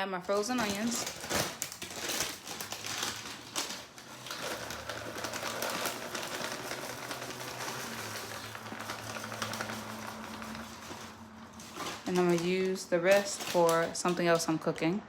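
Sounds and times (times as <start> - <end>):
frozen pieces rattling into a pot: 0.1 - 14.7.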